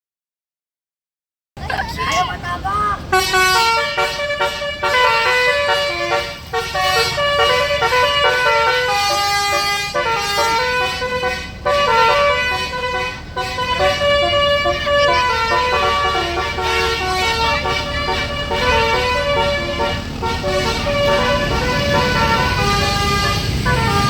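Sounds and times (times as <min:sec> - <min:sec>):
low engine rumble: 0:01.6 - 0:24.0
musical air horn playing tune: 0:03.1 - 0:24.0.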